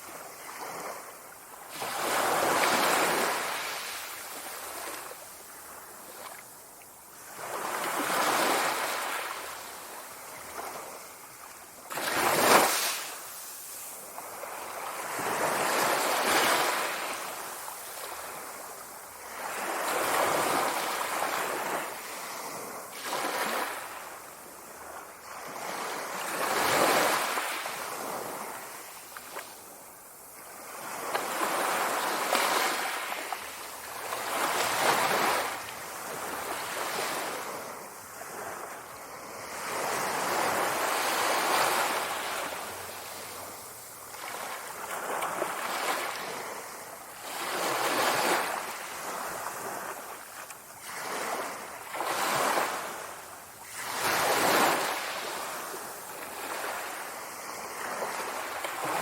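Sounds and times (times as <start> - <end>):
sea waves breaking ashore: 0.0 - 6.5, 7.1 - 59.0.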